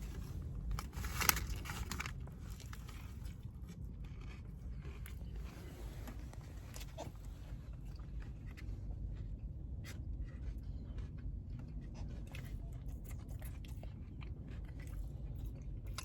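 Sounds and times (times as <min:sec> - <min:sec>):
chewing crispy fried chicken: 0:00.0 - 0:16.0.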